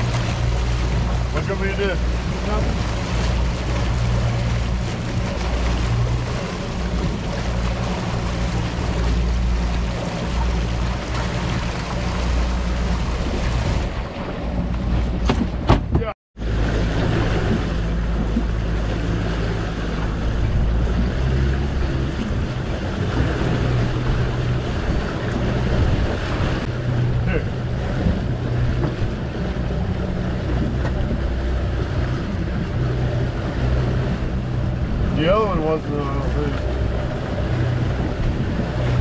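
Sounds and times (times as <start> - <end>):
wind on microphone: 0.0 - 35.5, 36.7 - 39.0
outboard engine running: 0.0 - 39.0
water rushing in wake: 0.0 - 39.0.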